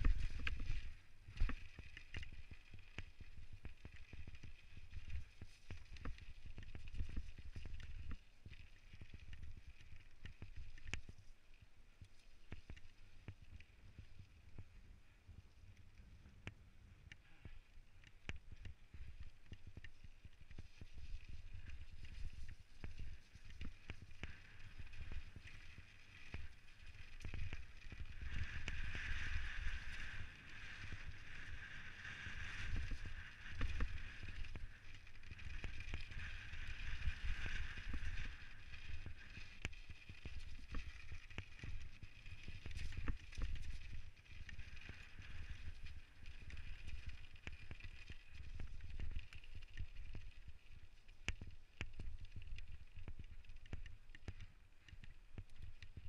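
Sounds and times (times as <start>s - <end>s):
bike rattling over bumps: 0.0s - 11.2s, 18.4s - 53.6s
whir of tyres and drivetrain: 0.0s - 56.0s
wind rumble on microphone: 0.0s - 56.0s.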